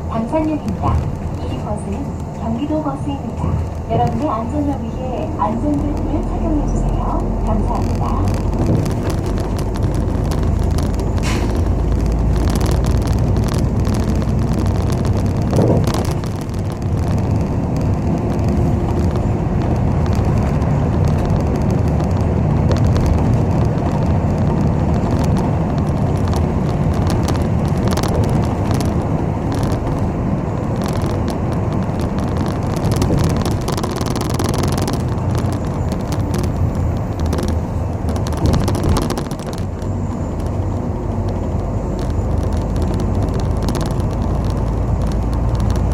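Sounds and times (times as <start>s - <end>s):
bus engine and road rumble: 0.0s - 45.9s
clicks and rattles in cabin: 0.1s - 45.9s.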